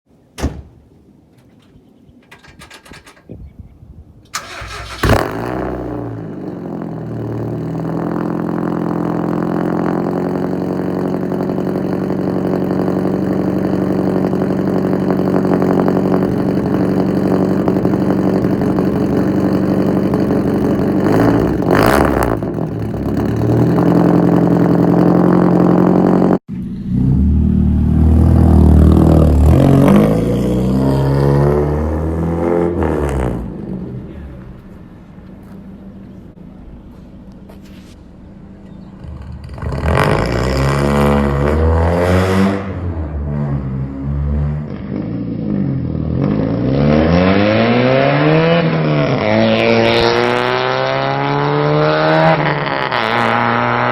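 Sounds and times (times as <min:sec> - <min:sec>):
car engine starting and idling: 0:00.3 - 0:03.5, 0:04.2 - 0:46.8
car engine revving: 0:04.4 - 0:36.2, 0:38.2 - 0:53.9.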